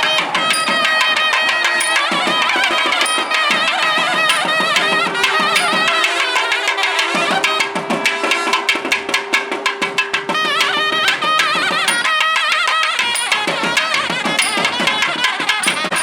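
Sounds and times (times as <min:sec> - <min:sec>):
rapid drum strokes: 0:00.0 - 0:16.0
reed instrument melody: 0:00.0 - 0:16.0.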